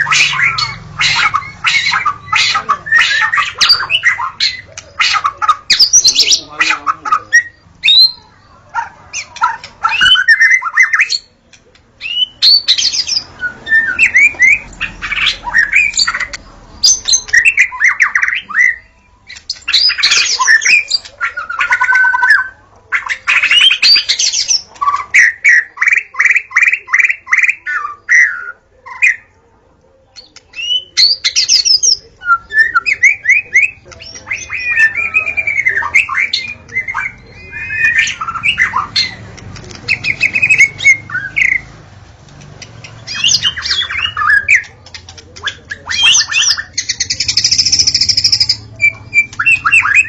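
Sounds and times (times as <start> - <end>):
songbird singing: 0.0 - 50.0.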